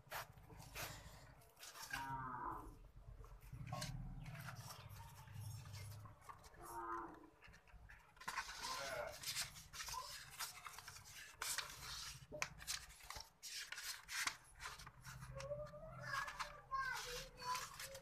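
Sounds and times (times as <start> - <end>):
paper rustling and scraping: 0.0 - 2.2, 3.3 - 18.0.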